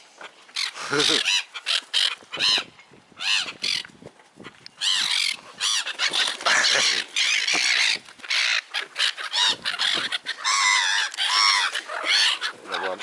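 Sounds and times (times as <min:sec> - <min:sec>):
flock of birds squawking: 0:00.1 - 0:13.0.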